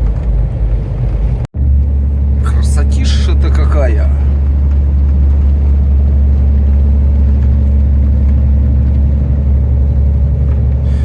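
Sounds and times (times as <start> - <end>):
road noise: 0.0 - 11.0
truck diesel engine drone: 0.9 - 11.0.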